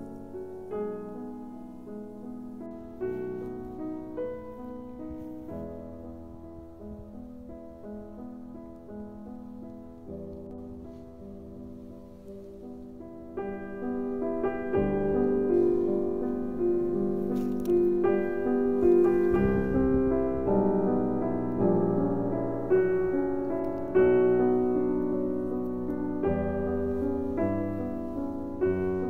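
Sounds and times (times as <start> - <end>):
slow gentle piano music: 0.0 - 29.0.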